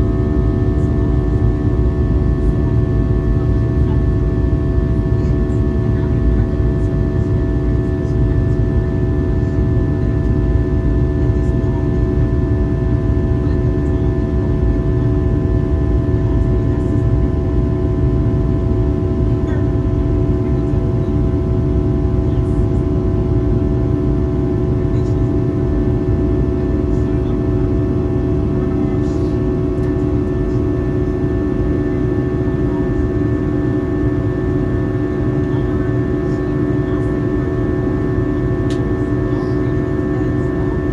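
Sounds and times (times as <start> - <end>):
jet engine and airflow roar: 0.0 - 40.9.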